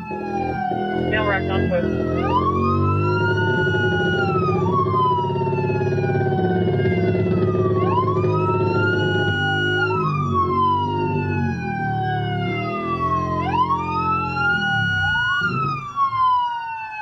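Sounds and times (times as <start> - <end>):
low engine hum: 0.0 - 16.1
police sirens wailing: 0.0 - 17.0.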